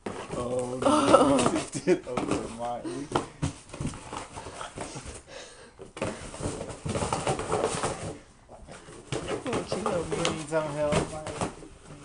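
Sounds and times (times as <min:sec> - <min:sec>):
puppies scratching cardboard box: 0:00.0 - 0:05.2, 0:05.9 - 0:12.0.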